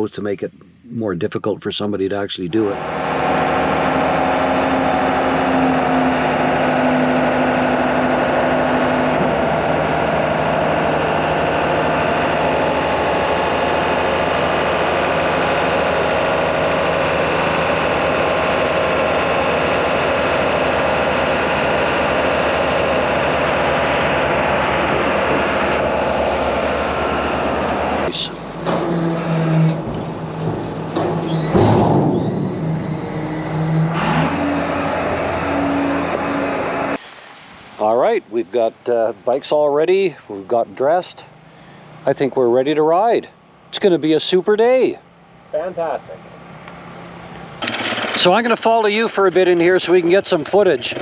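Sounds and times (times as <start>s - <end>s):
high steady whine: 0.0s - 50.8s
engine running: 0.0s - 51.0s.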